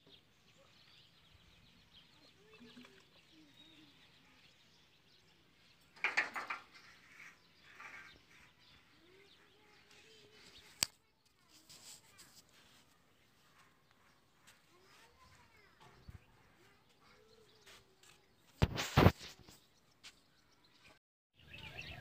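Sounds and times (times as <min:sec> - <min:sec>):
birds calling faintly: 0:00.0 - 0:22.0.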